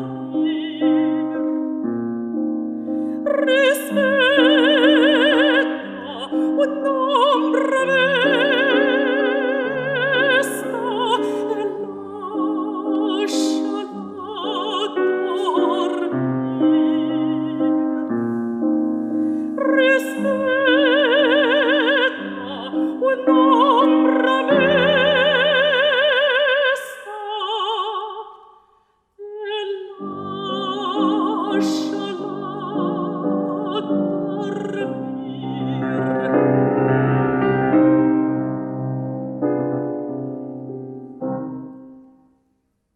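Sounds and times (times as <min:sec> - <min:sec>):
classical singer with vibrato: 0:00.0 - 0:01.9, 0:03.0 - 0:18.4, 0:19.3 - 0:38.3
piano accompaniment: 0:00.0 - 0:26.6, 0:30.0 - 0:42.2.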